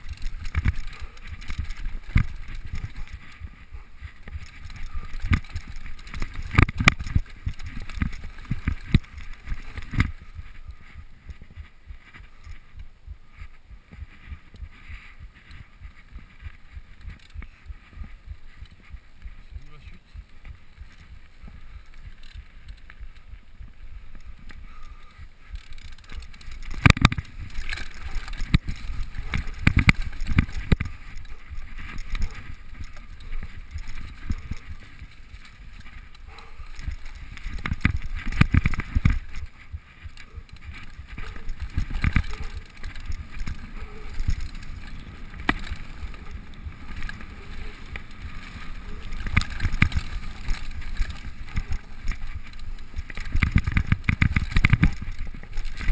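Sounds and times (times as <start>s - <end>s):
bike knocking and rattling: 0.0s - 55.9s
bike tyres rumbling on dirt: 0.0s - 55.9s.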